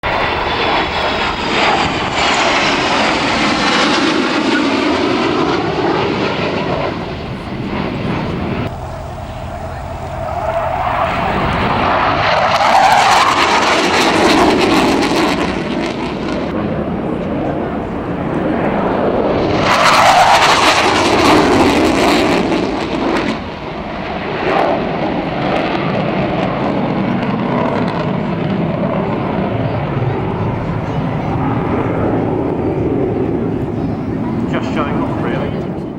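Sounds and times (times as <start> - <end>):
jet flying past: 0.0 - 35.9.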